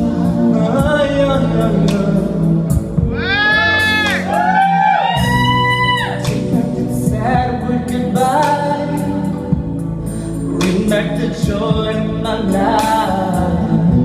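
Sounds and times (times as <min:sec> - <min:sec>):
backing track of low chords: 0:00.0 - 0:14.0.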